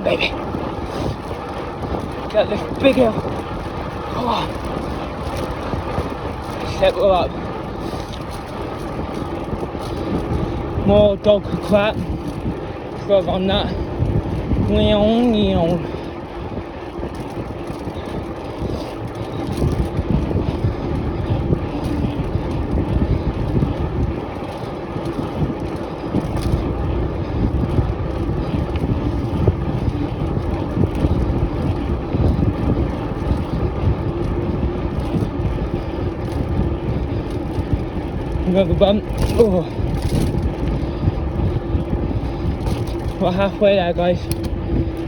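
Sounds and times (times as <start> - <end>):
bicycle rumbling over bumpy track: 0.0 - 45.0
wind buffeting microphone: 0.0 - 45.0.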